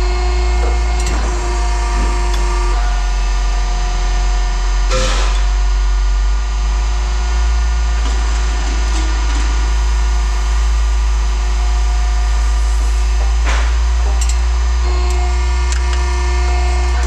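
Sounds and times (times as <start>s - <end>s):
machine humming loudly: 0.0s - 17.0s.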